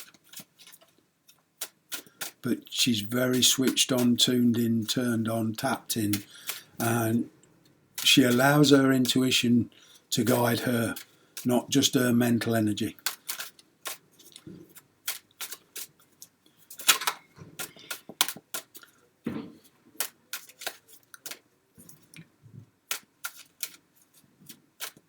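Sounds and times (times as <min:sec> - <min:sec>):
cards clicking and snapping: 0:00.0 - 0:07.0, 0:08.0 - 0:09.3, 0:09.9 - 0:11.6, 0:12.4 - 0:19.0, 0:19.6 - 0:25.0.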